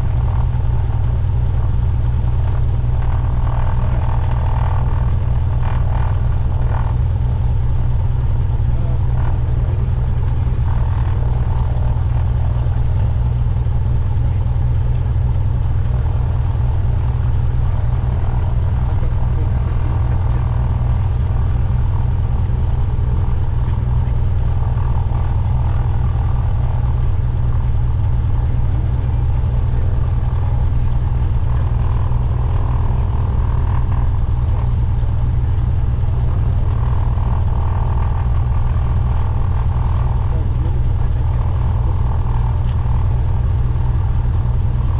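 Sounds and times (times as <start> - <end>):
propeller plane engine droning: 0.0 - 44.9.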